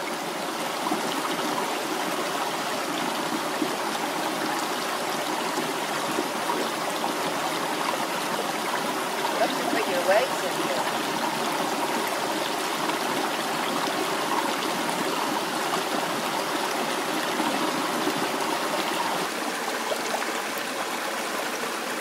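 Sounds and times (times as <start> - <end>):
brook running over stones: 0.0 - 22.0.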